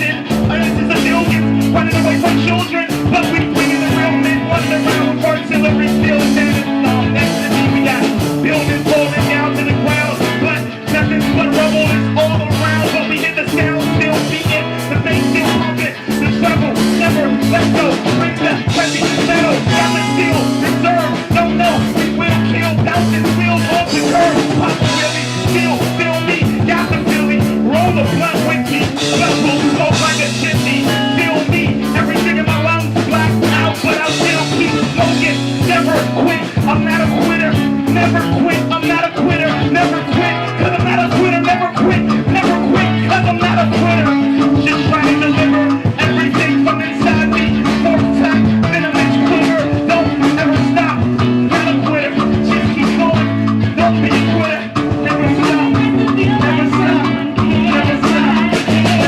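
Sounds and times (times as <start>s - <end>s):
bass line: 0.0s - 59.0s
live band jamming: 0.0s - 59.0s
steady drums: 0.0s - 59.0s.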